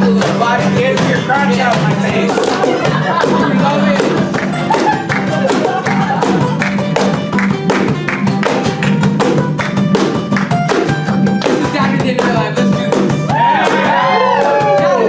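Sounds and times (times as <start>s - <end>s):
electric guitar: 0.0s - 15.0s
fast drum beat: 0.0s - 15.0s.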